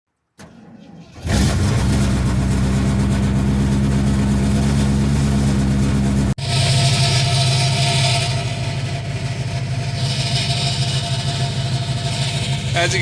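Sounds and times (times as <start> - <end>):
van engine starting: 0.3 - 13.0.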